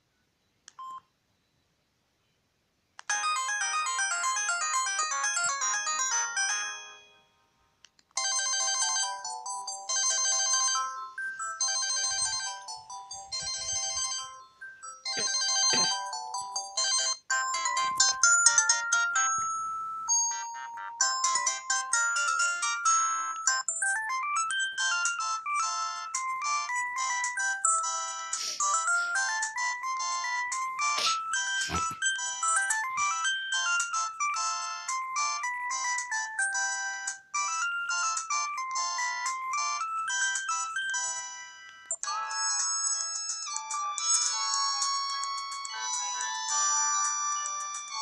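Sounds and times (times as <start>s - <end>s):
mobile phone ringtone melodies: 3.1s - 48.0s.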